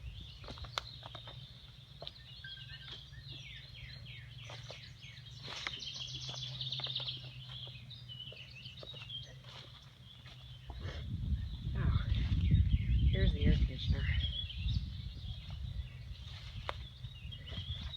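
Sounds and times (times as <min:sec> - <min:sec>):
footsteps in tree debris: 0:00.0 - 0:12.7, 0:15.0 - 0:17.9
bird trill: 0:00.0 - 0:17.9
songbirds singing: 0:00.0 - 0:17.9.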